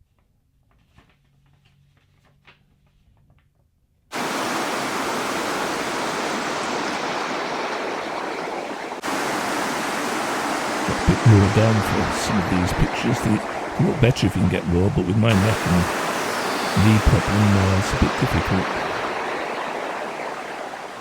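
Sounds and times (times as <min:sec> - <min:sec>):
fast river rushing: 0:04.2 - 0:21.0.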